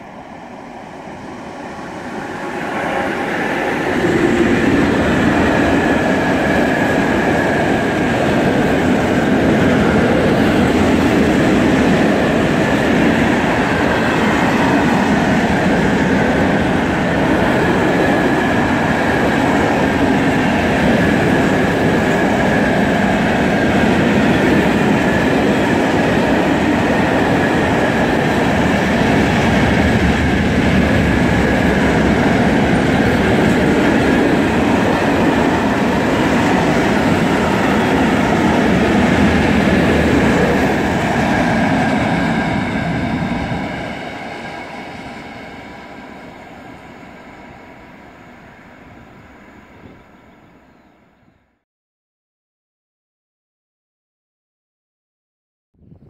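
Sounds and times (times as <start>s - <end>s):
train wheels rumbling on rails: 0.0s - 50.2s.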